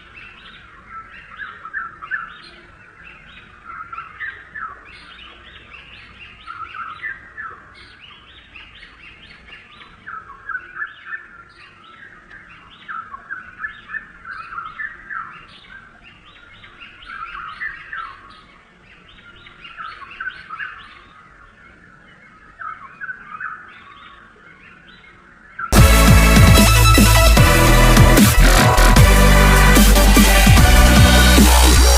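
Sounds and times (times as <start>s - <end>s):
small birds chirping: 0.0s - 25.8s.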